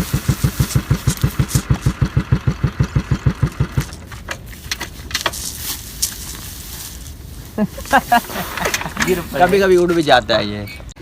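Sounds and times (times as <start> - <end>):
small engine idling: 0.0 - 9.7.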